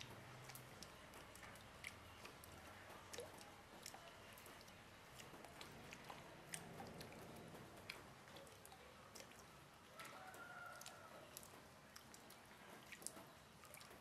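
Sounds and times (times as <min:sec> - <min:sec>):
water drops dripping: 0:00.0 - 0:14.0.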